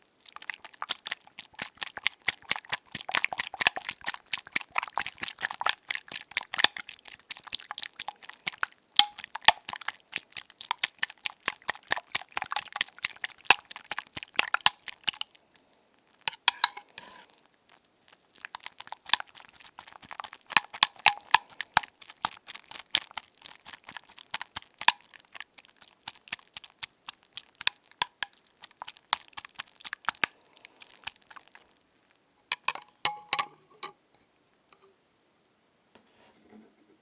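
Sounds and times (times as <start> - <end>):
crackling and scratching: 0.0 - 15.2, 16.2 - 34.0.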